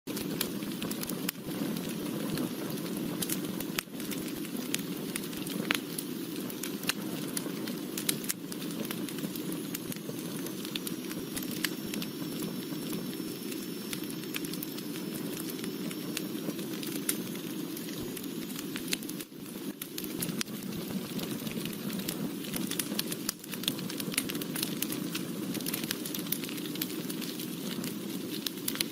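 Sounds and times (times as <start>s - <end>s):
wood fire crackling: 0.1s - 28.9s.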